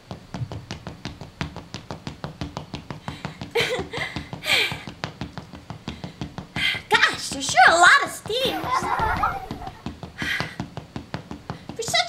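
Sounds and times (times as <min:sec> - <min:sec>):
rapid tapping footsteps on stairs: 0:00.0 - 0:12.0.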